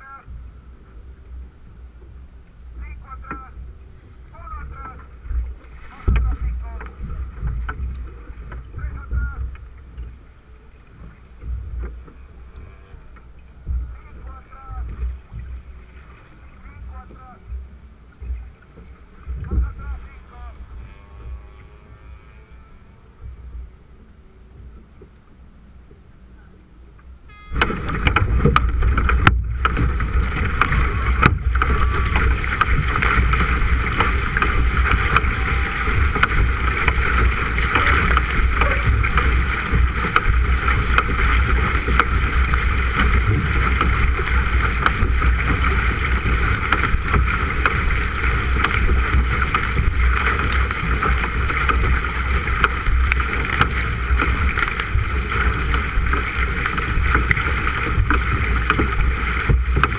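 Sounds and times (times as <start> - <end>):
paddle blades splashing water: 0.0 - 59.9
rush of wind and water: 0.0 - 59.9.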